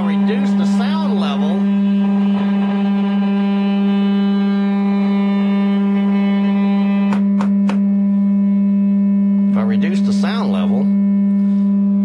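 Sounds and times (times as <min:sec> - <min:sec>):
low test tone from amplifier: 0:00.0 - 0:12.0.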